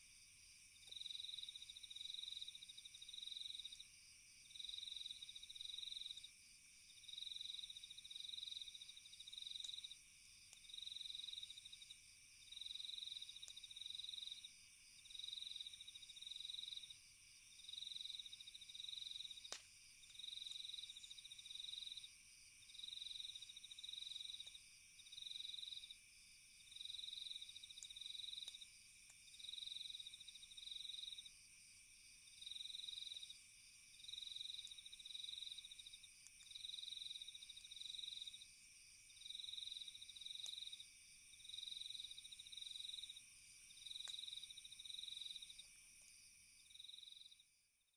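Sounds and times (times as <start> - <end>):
crickets chirping: 0.0 - 47.8
high drone of night insects: 0.0 - 47.8
campfire crackling: 0.1 - 16.4, 17.0 - 46.6.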